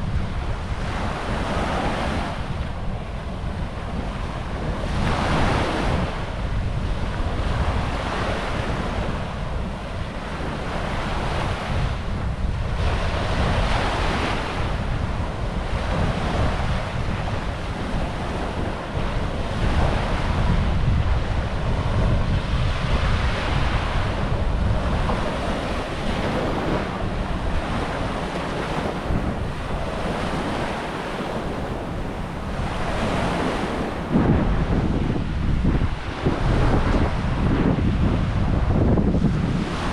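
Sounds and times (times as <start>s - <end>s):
sea waves breaking on shore: 0.0s - 39.9s
wind buffeting microphone: 0.0s - 39.9s.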